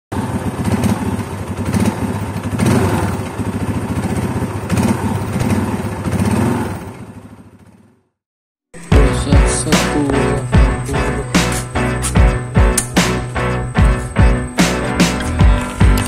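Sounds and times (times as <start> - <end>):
motorcycle engine running: 0.1 - 8.2, 8.8 - 16.0.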